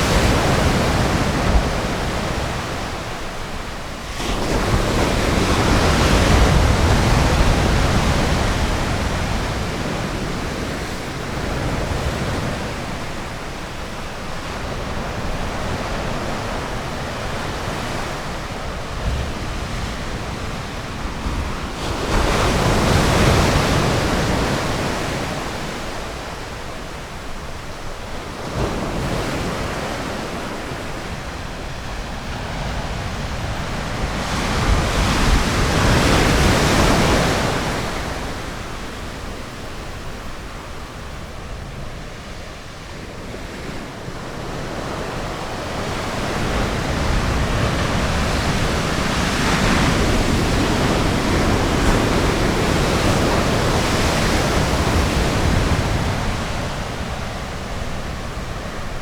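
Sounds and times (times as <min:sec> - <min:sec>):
ocean surf washing onto beach: 0:00.0 - 0:59.0.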